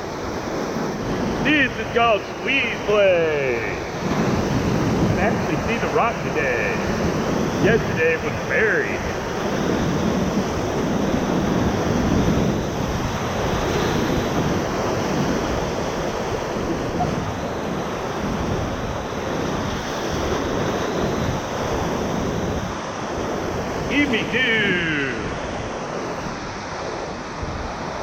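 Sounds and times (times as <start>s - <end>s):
whitewater rushing: 0.0s - 20.8s, 21.4s - 28.0s
wind noise on microphone: 4.0s - 23.9s, 24.7s - 28.0s.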